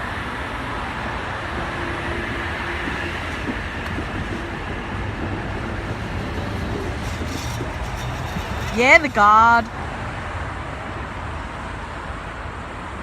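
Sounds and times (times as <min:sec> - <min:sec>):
train rolling: 0:00.0 - 0:13.0.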